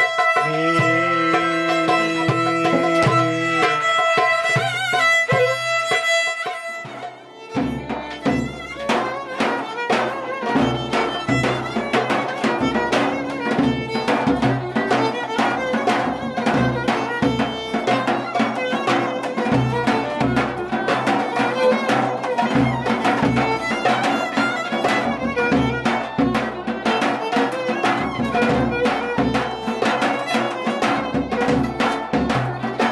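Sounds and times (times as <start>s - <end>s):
folk band playing: 0.0s - 32.9s
violin melody: 0.0s - 32.9s.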